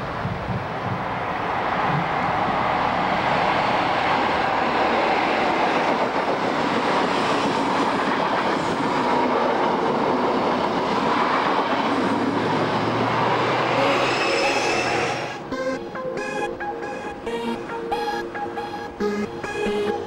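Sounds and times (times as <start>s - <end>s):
wheels roaring on rail: 0.0s - 17.7s
train passing at speed: 0.0s - 20.0s.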